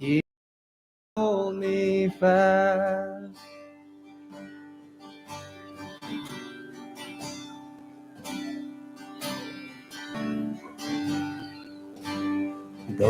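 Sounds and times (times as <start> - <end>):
acoustic guitar strumming: 1.2 - 13.0.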